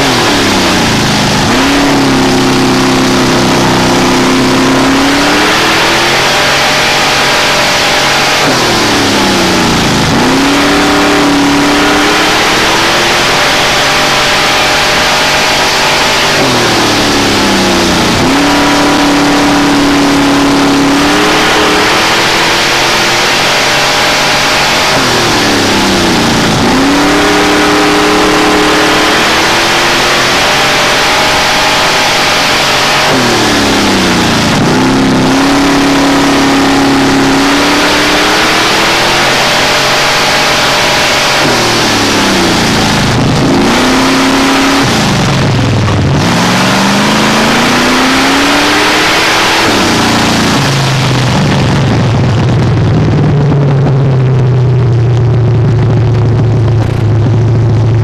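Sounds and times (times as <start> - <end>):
race car engine: 0.0 - 58.0
steady rushing noise: 0.0 - 58.0.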